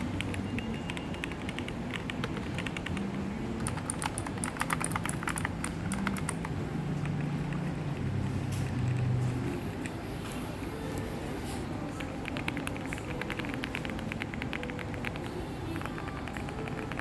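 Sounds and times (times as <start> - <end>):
mechanical keyboard typing: 0.0 - 9.1, 11.8 - 17.0
low background hum: 0.0 - 17.0.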